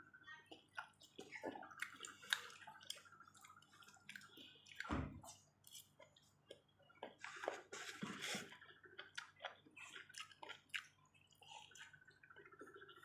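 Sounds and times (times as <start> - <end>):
person chewing: 0.7 - 13.0.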